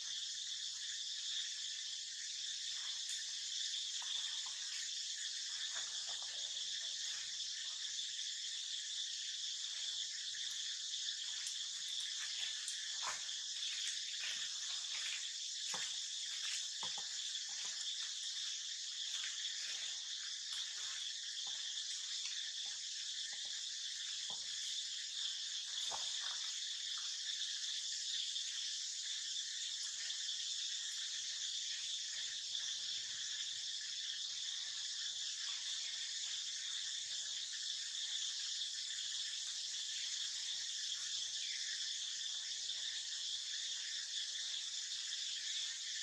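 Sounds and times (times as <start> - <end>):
insects chorus: 0.0 - 46.0.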